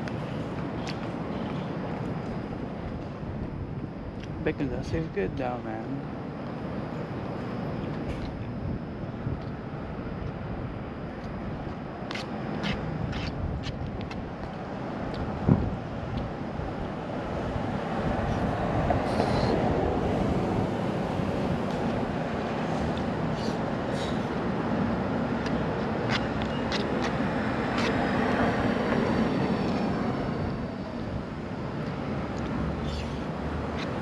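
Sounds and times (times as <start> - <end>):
street traffic rumble: 0.0 - 34.0.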